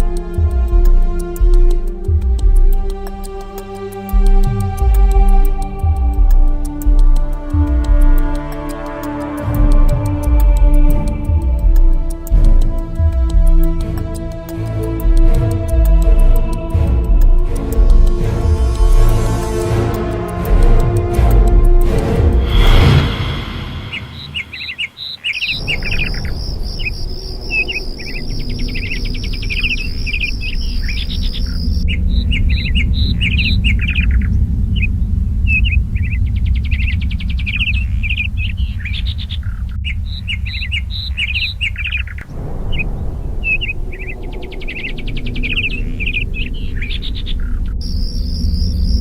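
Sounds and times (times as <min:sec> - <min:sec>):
birds chirping: 0:00.0 - 0:49.0
steady low rumble: 0:00.0 - 0:49.0.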